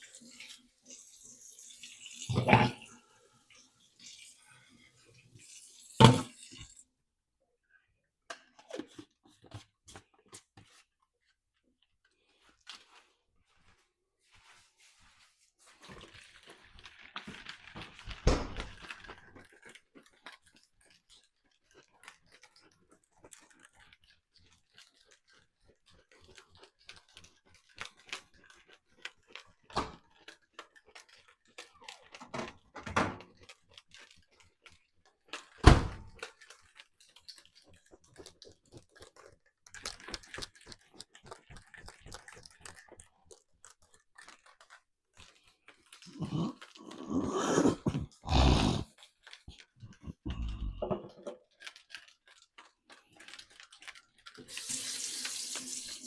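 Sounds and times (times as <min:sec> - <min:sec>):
crinkly rustling: 0:08.4 - 0:48.2, 0:48.8 - 0:50.4, 0:51.1 - 0:56.0.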